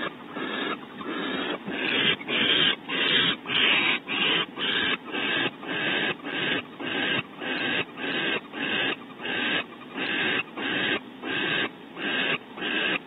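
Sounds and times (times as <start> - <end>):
owl hissing snore call: 0.0 - 13.0.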